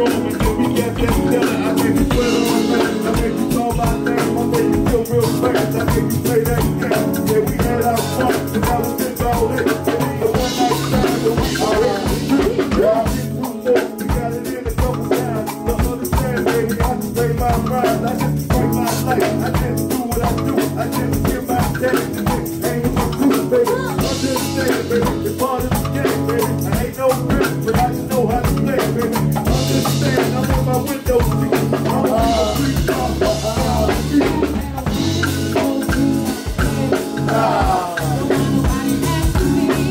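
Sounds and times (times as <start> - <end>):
drum kit beat: 0.0 - 39.9
low bass line: 0.0 - 39.9
person singing into a microphone: 0.0 - 39.9.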